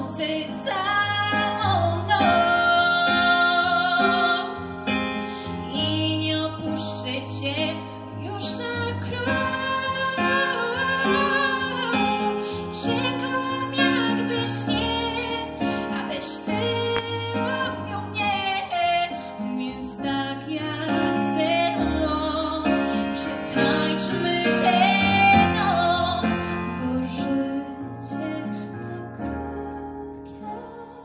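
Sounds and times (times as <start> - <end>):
woman singing with vibrato: 0.0 - 4.8, 5.7 - 31.0
digital piano: 0.0 - 31.0.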